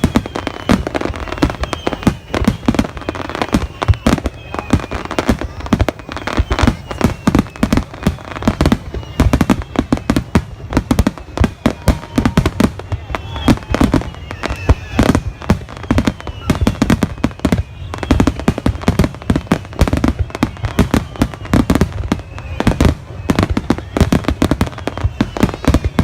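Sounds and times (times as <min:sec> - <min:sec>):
fireworks booming and cracking: 0:00.0 - 0:26.0.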